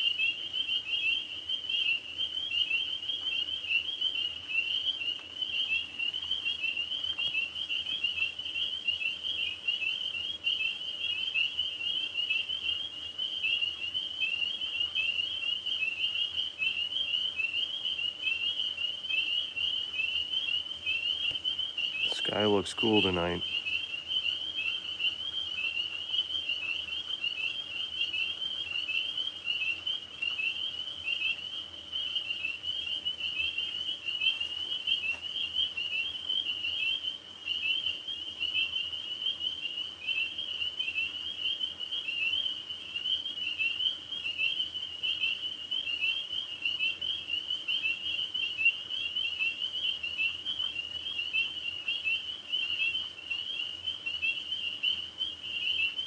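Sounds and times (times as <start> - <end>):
tree frogs chirping: 0.0 - 56.0.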